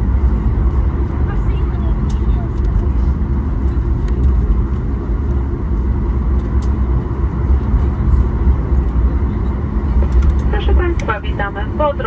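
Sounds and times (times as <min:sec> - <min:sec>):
low rumble of engines and wheels: 0:00.0 - 0:12.0.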